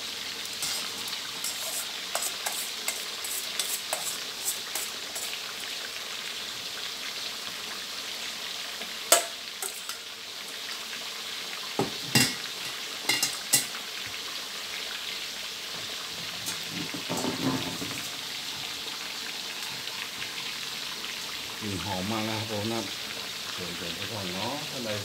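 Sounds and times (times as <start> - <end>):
fish deep-frying in hot oil: 0.0 - 25.0.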